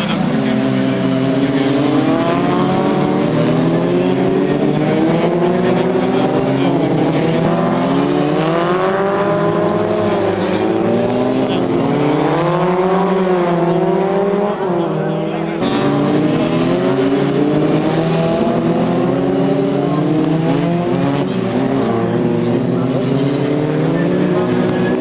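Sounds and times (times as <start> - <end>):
racing car engines passing: 0.0 - 25.0.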